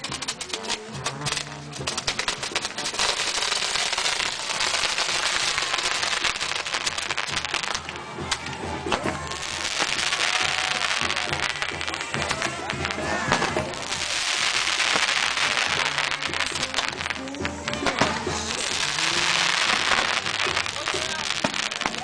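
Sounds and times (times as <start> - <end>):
fireworks crackling: 0.0 - 22.0
fireworks hissing: 0.0 - 22.0
music: 0.0 - 22.0.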